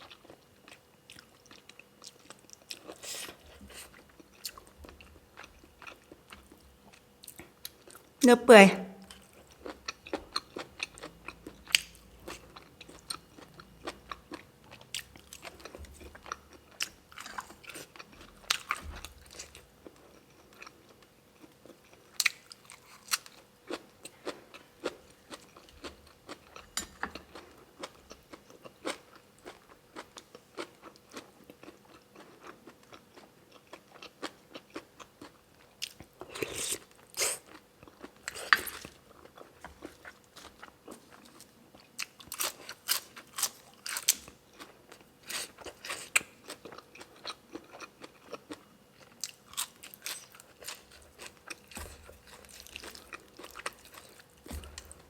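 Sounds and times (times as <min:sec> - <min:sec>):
chewing with wet mouth clicks: 0:09.1 - 0:55.0.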